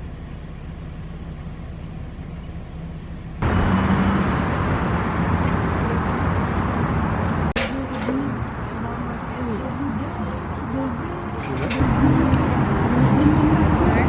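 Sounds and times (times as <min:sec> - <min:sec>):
vehicle hum: 0:00.0 - 0:14.0.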